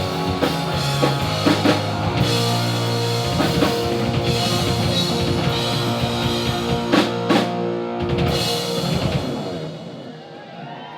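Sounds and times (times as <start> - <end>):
heavy drum and cymbal hits: 0.0 - 9.9
rock band playing: 0.0 - 10.9.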